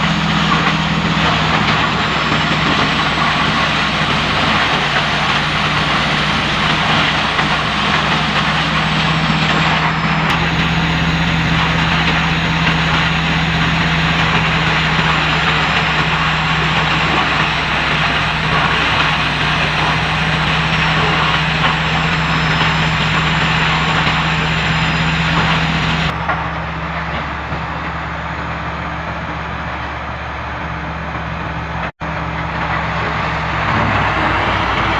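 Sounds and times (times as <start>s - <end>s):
wood chipper grinding: 0.0s - 34.9s.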